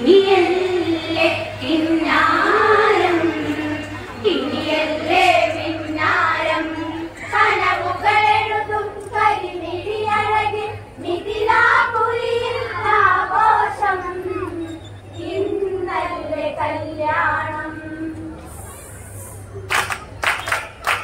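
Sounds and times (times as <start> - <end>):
people singing together: 0.0 - 18.3.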